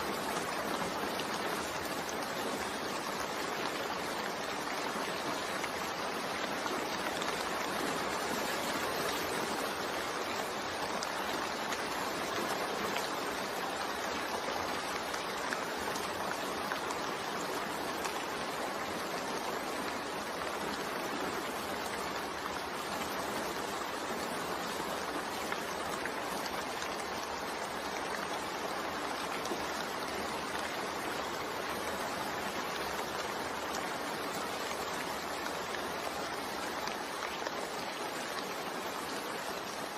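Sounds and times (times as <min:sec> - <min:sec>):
rain: 0:00.0 - 0:39.9.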